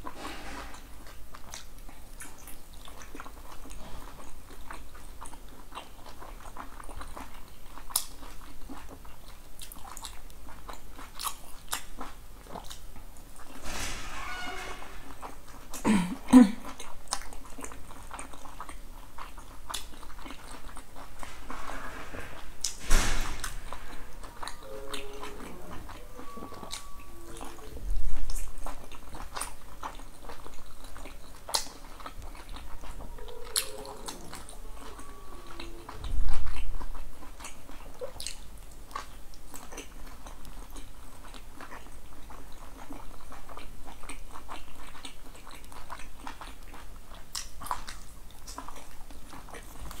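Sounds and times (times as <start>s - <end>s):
person chewing with wet clicks: 0.0s - 13.5s, 15.2s - 21.3s, 23.8s - 50.0s.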